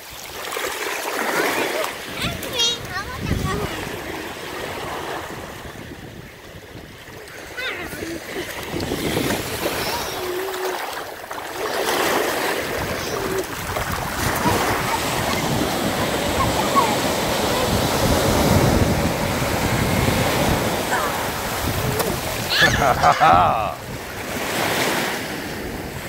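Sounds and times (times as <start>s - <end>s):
small waves washing over sand: 0.0s - 26.0s.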